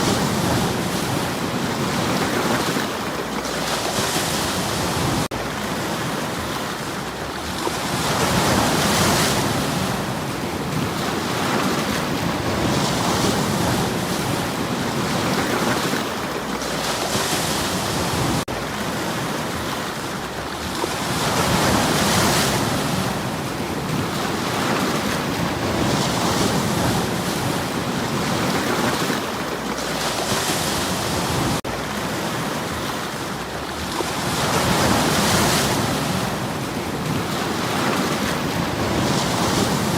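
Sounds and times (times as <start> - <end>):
waves washing onto stony shore: 0.0 - 39.9.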